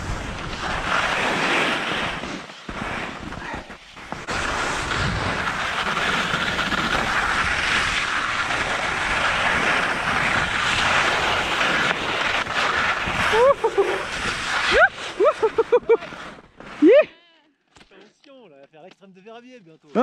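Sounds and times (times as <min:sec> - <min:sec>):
skis hissing over snow: 0:00.0 - 0:17.1.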